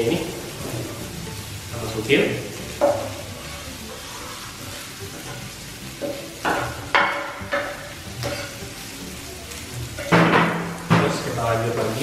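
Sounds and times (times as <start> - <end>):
onion sizzling in a pan: 0.0 - 12.0.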